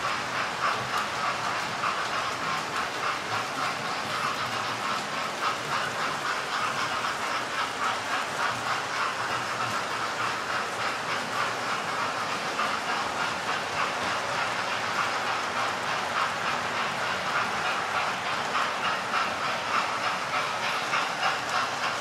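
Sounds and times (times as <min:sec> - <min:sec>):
model train wheels rattling: 0:00.0 - 0:22.0.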